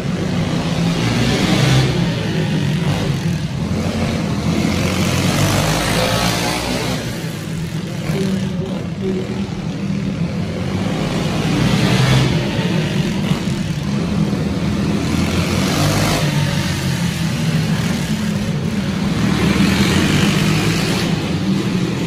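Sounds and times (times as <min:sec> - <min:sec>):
go-kart engines droning: 0:00.0 - 0:22.0.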